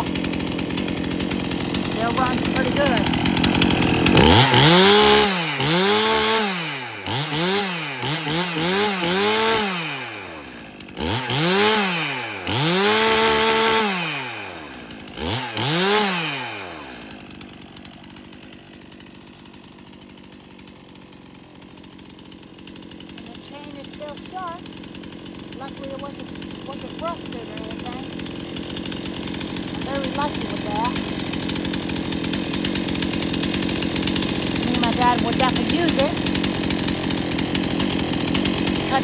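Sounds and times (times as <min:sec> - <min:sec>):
chainsaw revving: 0:00.0 - 0:39.0.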